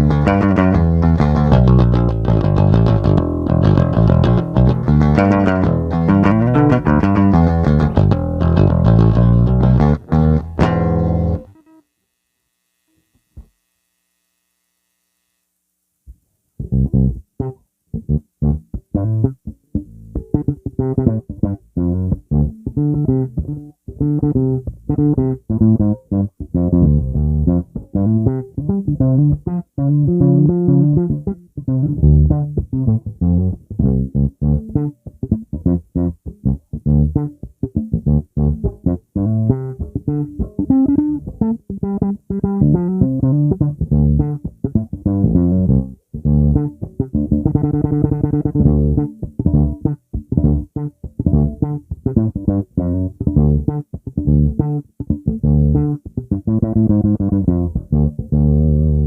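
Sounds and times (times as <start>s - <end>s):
electric bass plucked notes: 0.0s - 11.8s, 16.6s - 59.0s.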